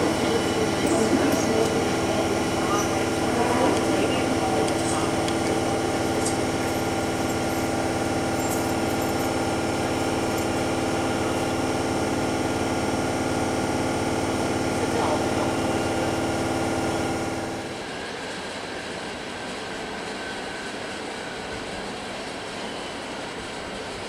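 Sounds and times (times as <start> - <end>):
electric locomotive hum: 0.0 - 24.0.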